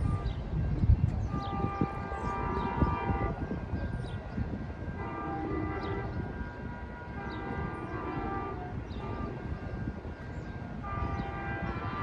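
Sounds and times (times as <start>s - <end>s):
train horn blasts: 0.0s - 4.1s, 4.8s - 12.0s.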